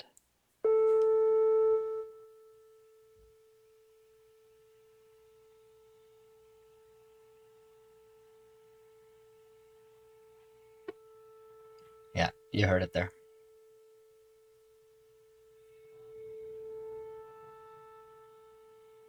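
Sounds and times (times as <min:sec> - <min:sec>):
faint steady test tone: 0:00.0 - 0:19.0.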